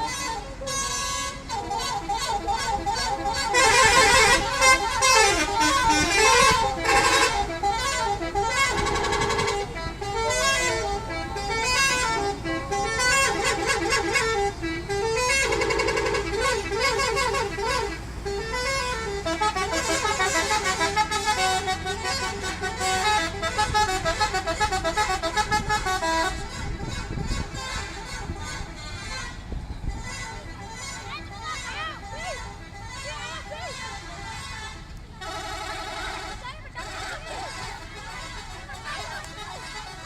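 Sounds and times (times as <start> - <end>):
musical air horns playing melodies: 0.0 - 40.0.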